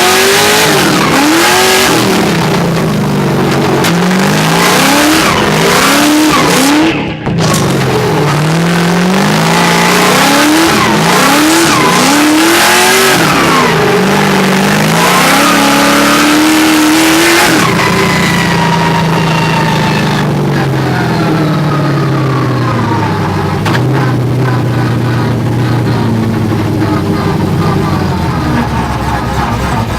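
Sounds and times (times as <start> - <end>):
car engine revving hard: 0.0 - 29.9
tyres screeching: 0.0 - 29.9.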